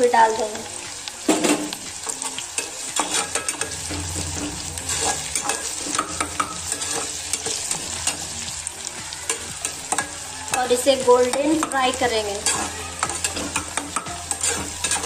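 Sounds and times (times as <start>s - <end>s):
onions sizzling in hot oil: 0.0s - 15.0s
metal spatula scraping a pot: 1.4s - 8.5s, 9.3s - 15.0s.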